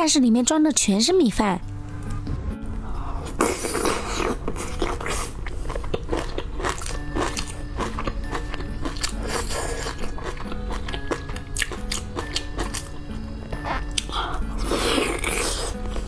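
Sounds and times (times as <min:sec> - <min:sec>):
background music: 0:00.0 - 0:16.0
crunchy biting and chewing: 0:03.1 - 0:16.0.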